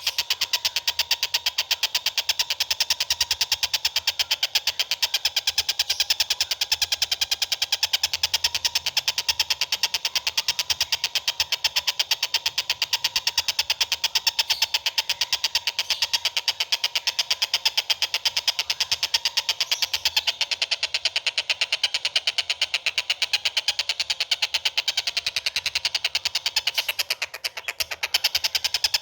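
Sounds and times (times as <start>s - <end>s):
bird calling rapid sharp chips: 0.0s - 29.0s.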